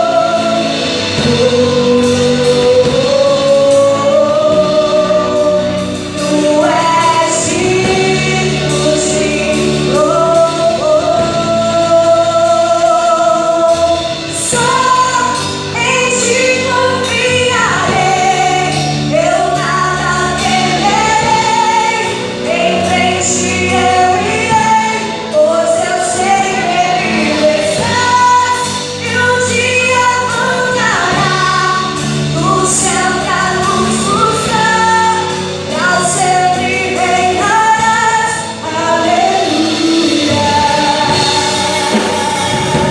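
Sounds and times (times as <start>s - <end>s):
backing voices singing: 0.0s - 42.9s
live band playing: 0.0s - 42.9s
woman singing: 0.0s - 42.9s.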